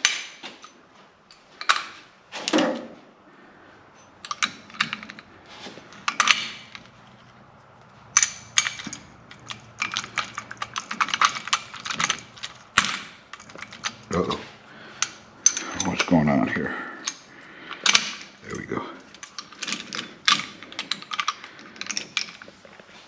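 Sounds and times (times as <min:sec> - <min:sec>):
hard parts clicking and clinking: 0:00.0 - 0:03.0, 0:03.9 - 0:23.0.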